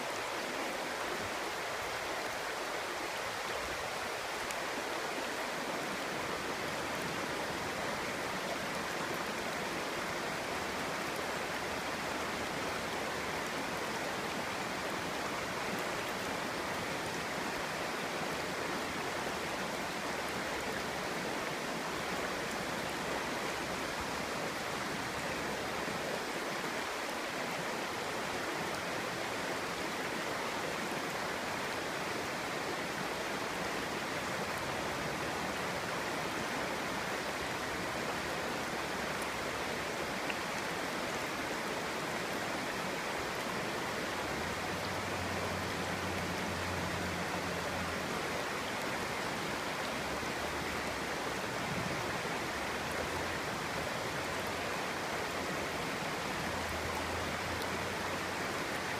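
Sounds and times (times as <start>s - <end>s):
stream babbling over stones: 0.0s - 58.9s.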